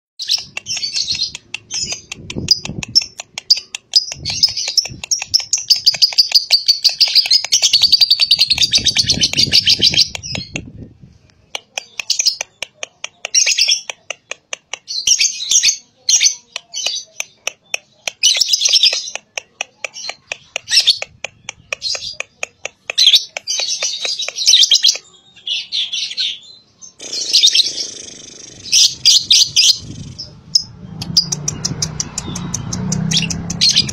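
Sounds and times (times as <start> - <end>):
lovebird chirping: 0.2 - 10.7, 11.8 - 33.9.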